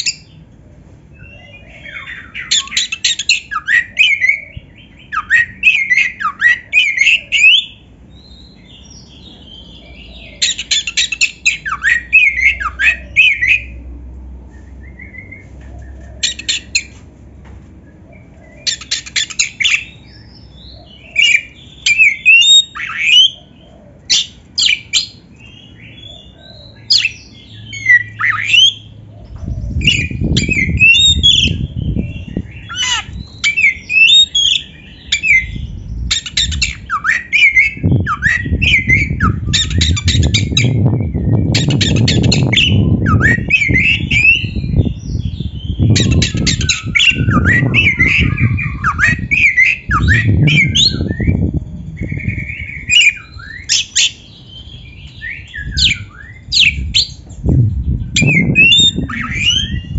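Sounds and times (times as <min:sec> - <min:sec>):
songbird singing: 0:00.0 - 0:59.9
low rumbling noise: 0:06.6 - 0:22.3, 0:23.3 - 0:59.9.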